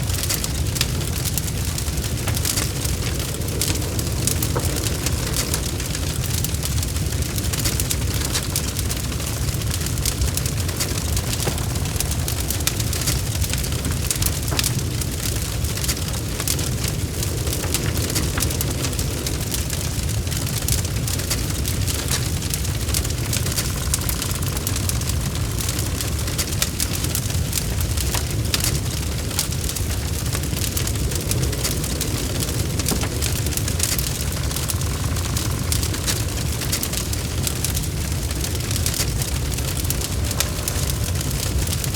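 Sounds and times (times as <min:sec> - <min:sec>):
log fire rumbling: 0:00.0 - 0:41.9
wood crackling and popping: 0:00.0 - 0:41.9.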